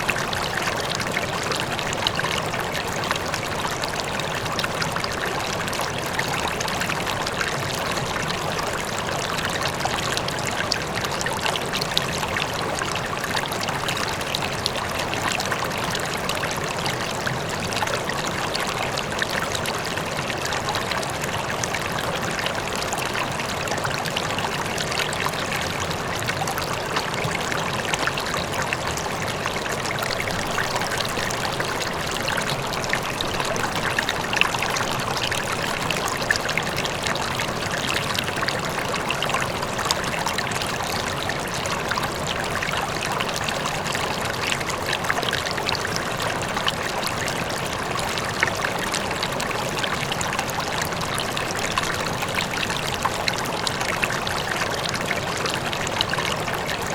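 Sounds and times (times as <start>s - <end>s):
river water flowing over stones: 0.0s - 56.9s.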